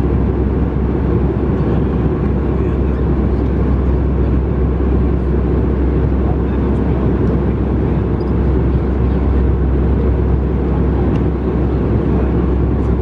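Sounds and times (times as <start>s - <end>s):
airplane cabin drone: 0.0s - 13.0s.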